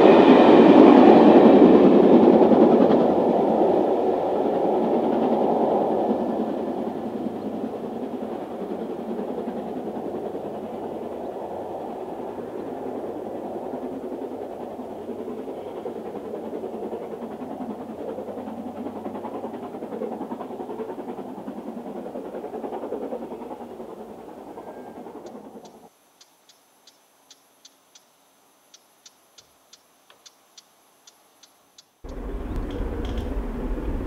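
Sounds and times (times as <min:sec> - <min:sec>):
steam train rumbling: 0:00.0 - 0:25.9, 0:32.1 - 0:34.0.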